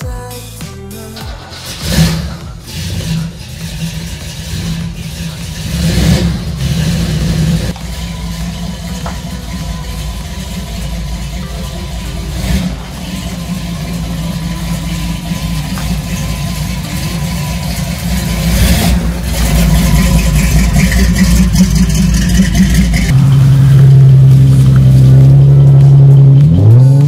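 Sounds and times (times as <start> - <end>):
truck engine revving: 0.8 - 27.0
low engine drone: 1.0 - 27.0.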